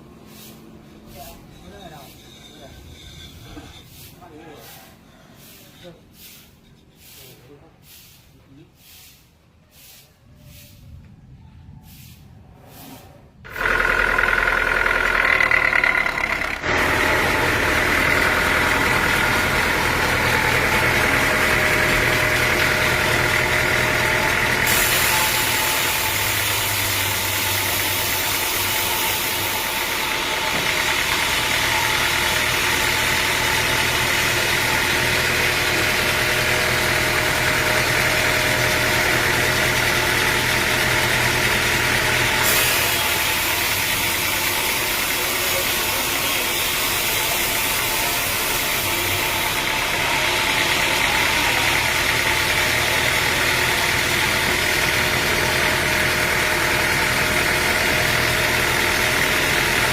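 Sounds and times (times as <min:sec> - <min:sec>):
sawmill machinery drone: 0:00.0 - 0:07.6, 0:12.7 - 0:59.9.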